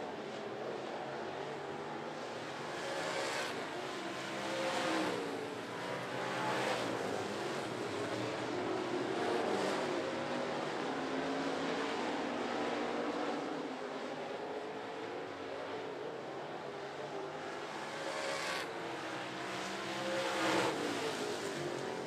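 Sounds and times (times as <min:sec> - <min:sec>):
race car engines roaring past: 0:00.0 - 0:22.0.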